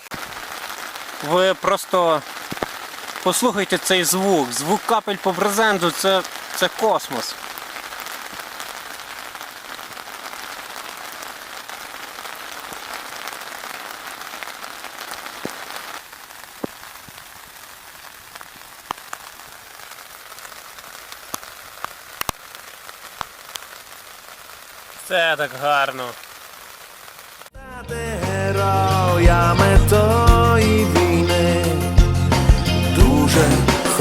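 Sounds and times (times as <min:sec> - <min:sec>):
rain on a canvas tent: 0:00.0 - 0:27.6.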